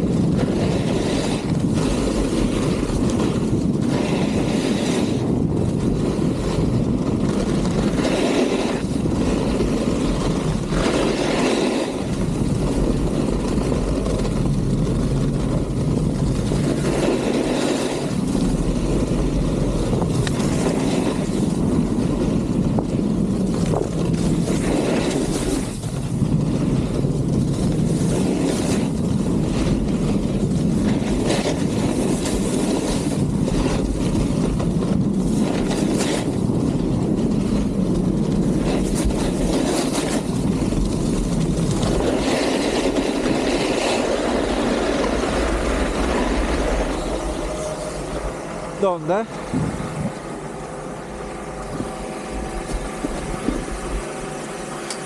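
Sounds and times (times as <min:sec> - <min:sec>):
snowboard scraping on snow: 0:00.0 - 0:55.0
wind buffeting microphone: 0:00.0 - 0:55.0.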